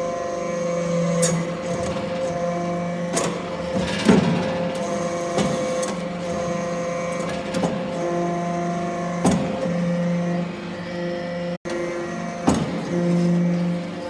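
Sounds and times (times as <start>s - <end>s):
hydraulic press pump humming: 0.0s - 14.0s.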